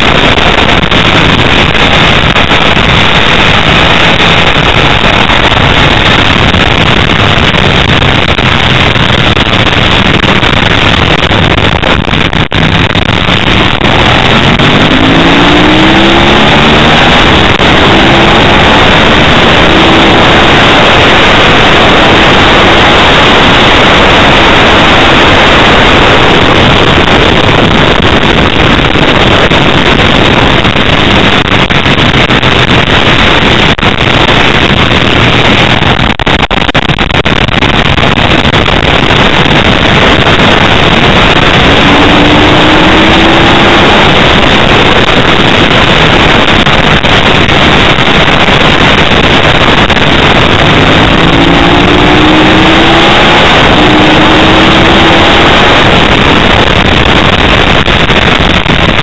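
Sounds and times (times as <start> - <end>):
distorted wind roar: 0.0 - 59.0
motorcycle engine revving: 0.0 - 59.0.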